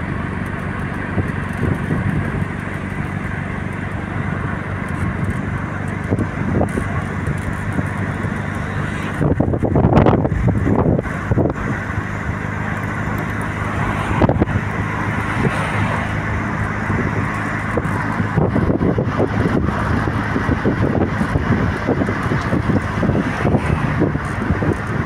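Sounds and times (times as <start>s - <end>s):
car engine hum: 0.0s - 25.0s
tyre and road noise: 0.0s - 25.0s.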